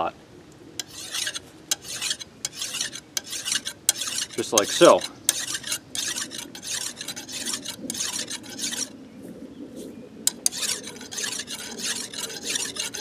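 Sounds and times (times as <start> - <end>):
hand file rasping on metal: 0.8 - 8.9, 10.4 - 13.0.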